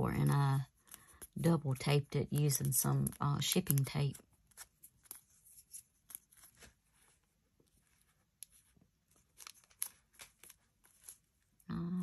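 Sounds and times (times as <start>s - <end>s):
paper crinkles: 0.6s - 11.6s
paper rustling: 0.7s - 11.6s.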